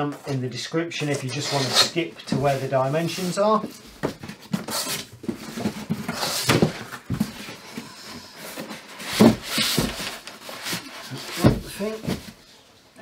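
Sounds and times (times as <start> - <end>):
cardboard rustling and scraping: 1.0 - 12.6.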